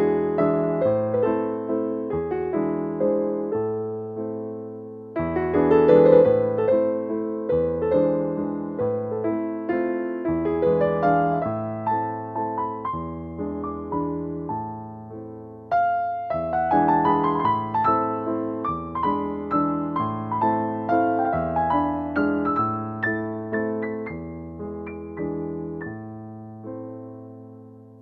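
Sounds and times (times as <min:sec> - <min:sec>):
soft piano melody: 0:00.0 - 0:28.0.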